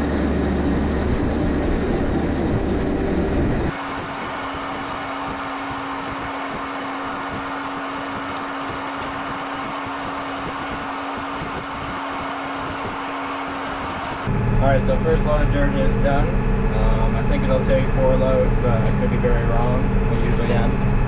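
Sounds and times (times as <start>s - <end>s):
tractor and spreader running: 0.0s - 21.0s.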